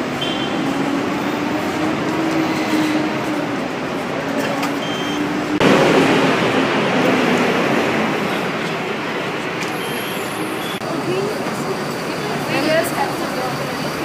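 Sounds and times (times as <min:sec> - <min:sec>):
bus engine droning: 0:00.0 - 0:14.0
loud rush of noise: 0:00.0 - 0:14.0
traffic noise: 0:00.0 - 0:14.0.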